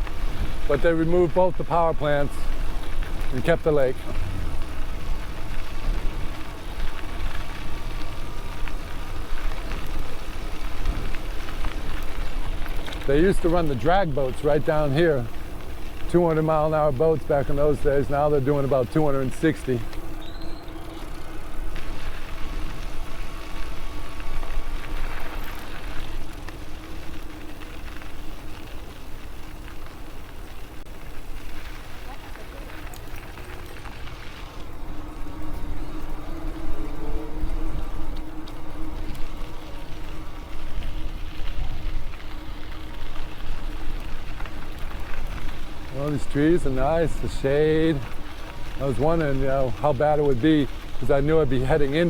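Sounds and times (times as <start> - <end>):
faint steady hum: 0.0 - 52.0
faint thin whine: 0.0 - 52.0
tyre and wind noise: 0.0 - 52.0.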